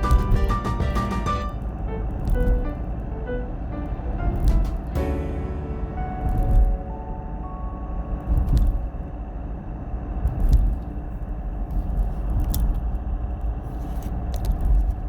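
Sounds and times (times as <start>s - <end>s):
diesel engine rumbling: 0.0s - 12.6s.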